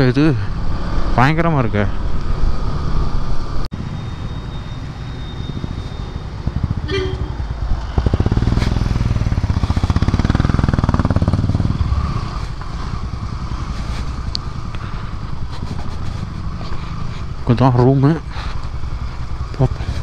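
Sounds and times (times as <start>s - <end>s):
motorcycle engine: 1.9s - 20.0s.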